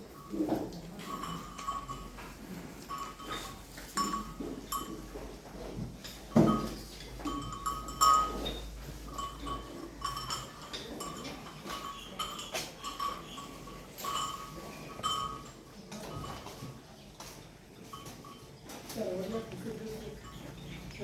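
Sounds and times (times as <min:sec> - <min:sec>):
light metallic clinks: 0:00.2 - 0:05.4, 0:06.0 - 0:21.0.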